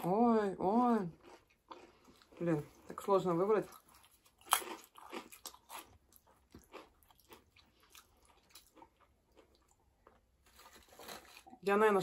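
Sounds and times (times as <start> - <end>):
chewing crunchy snacks: 1.1 - 3.0, 3.6 - 11.7.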